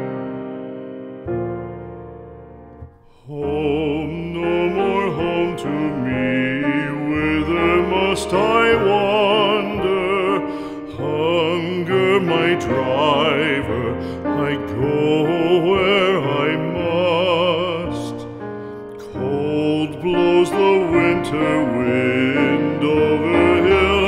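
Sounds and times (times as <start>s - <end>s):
person singing with piano: 0.0s - 24.0s
piano chord: 0.0s - 24.0s.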